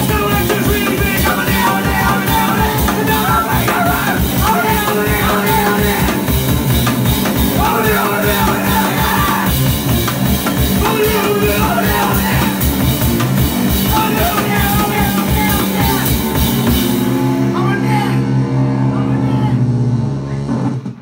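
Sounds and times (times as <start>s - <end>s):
drum kit fast beat: 0.0s - 17.8s
electric guitars: 0.0s - 21.0s
live punk band playing: 0.0s - 21.0s.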